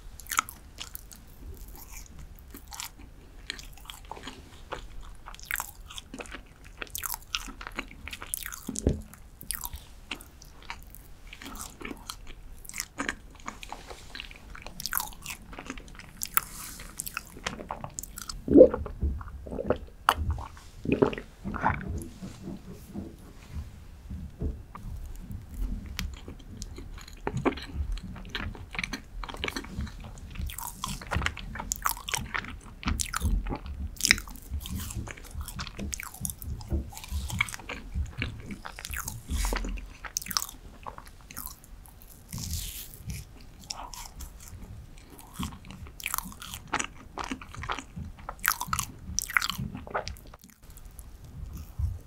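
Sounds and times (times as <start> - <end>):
chewing and wet mouth sounds: 0.0 - 23.7, 24.7 - 52.0.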